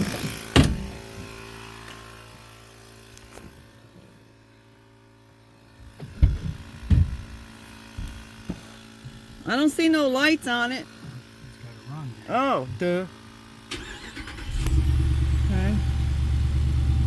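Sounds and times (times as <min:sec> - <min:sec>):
tire inflator humming: 0:00.0 - 0:17.0.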